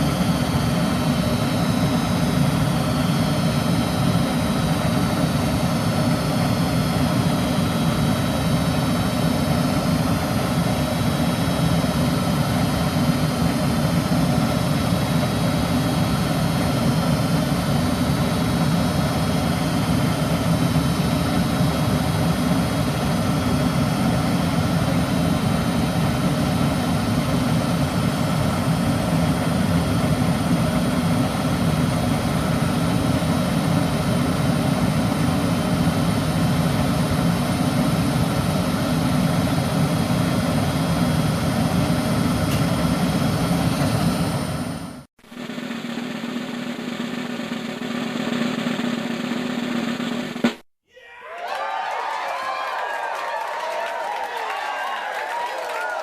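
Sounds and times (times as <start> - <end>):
furnace low rushing drone: 0.0 - 50.4.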